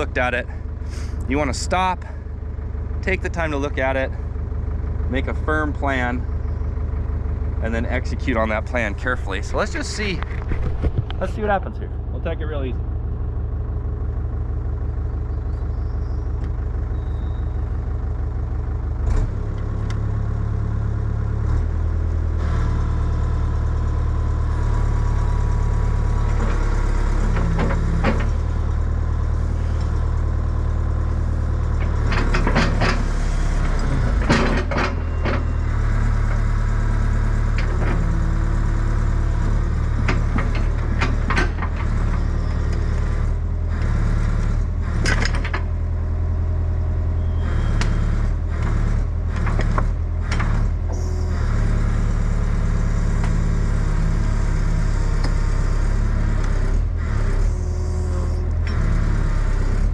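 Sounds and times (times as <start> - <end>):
excavator diesel engine under load: 0.0 - 59.9.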